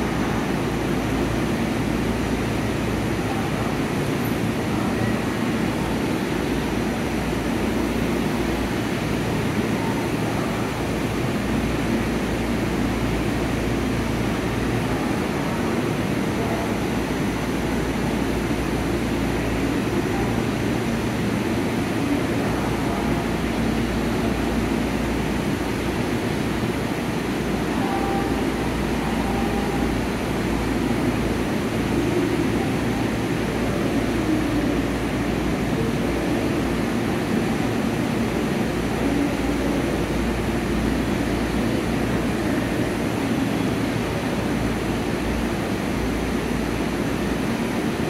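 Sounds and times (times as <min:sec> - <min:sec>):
electric train equipment humming: 0:00.0 - 0:48.0.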